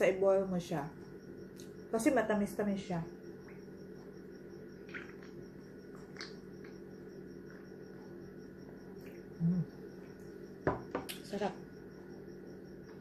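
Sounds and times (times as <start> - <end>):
faint high pulsing tone: 0.0 - 13.0
steady hum: 0.0 - 13.0.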